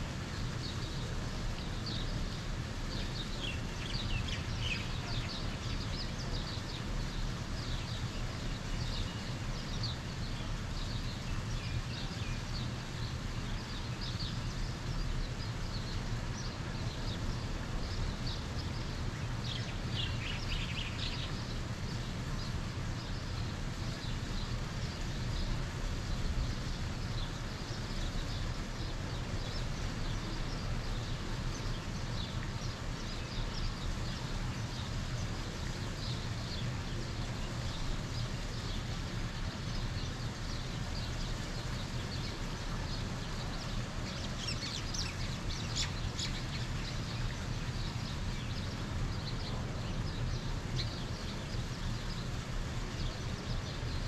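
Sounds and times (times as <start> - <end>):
birds chirping: 0.3 - 54.0.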